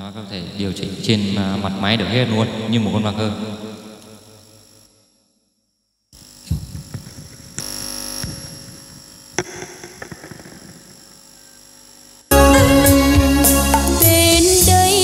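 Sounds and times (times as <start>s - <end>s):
electrical hum and hiss: 0.0s - 4.9s, 6.1s - 15.0s.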